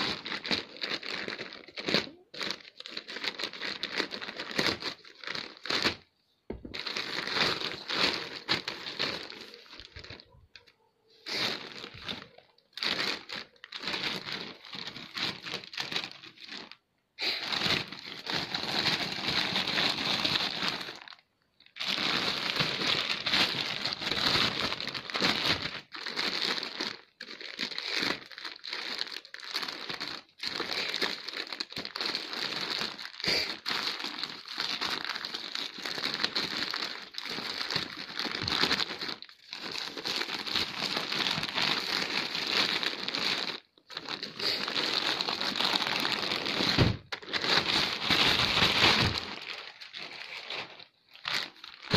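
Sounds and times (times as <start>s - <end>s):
plastic mailer bag crinkling and tearing: 0.0s - 51.9s.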